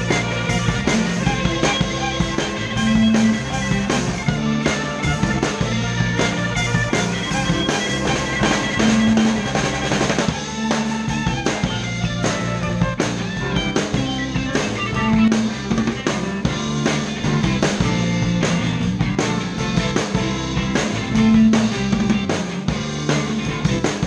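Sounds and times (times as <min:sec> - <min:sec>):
drum kit beat: 0:00.0 - 0:24.0
live rock band instrumental: 0:00.0 - 0:24.0.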